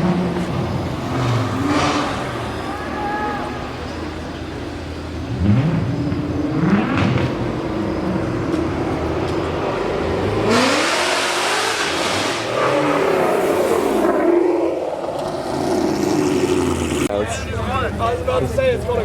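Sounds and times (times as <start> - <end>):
cars accelerating: 0.0 - 17.1.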